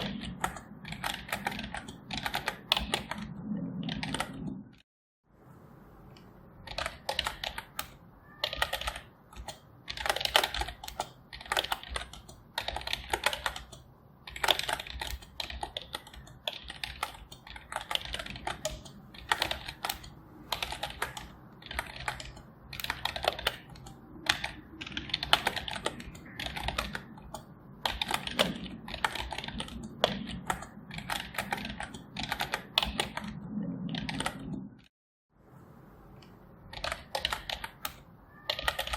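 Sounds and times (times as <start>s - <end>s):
typing on computer keyboard: 0.0s - 4.6s, 6.6s - 34.9s, 36.7s - 38.9s.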